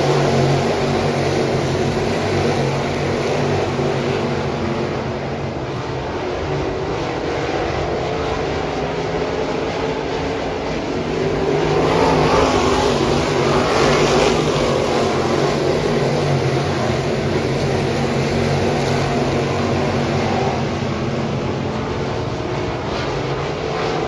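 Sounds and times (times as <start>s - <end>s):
race car engines at speed: 0.0s - 24.0s.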